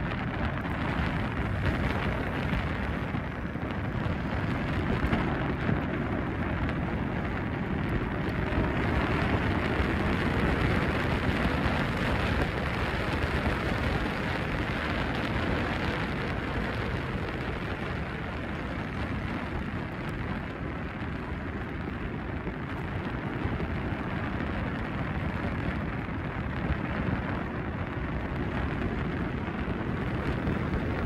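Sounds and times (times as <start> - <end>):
road rumble: 0.0 - 31.0
wind on microphone: 0.0 - 31.0.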